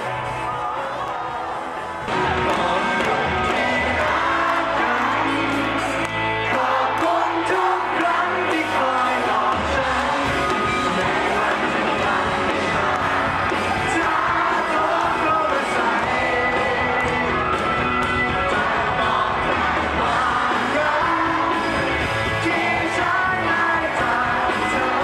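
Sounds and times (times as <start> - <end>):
crowd shouting: 0.0 - 25.0
live pop-rock band: 0.0 - 25.0
man singing: 2.1 - 17.5, 18.4 - 25.0.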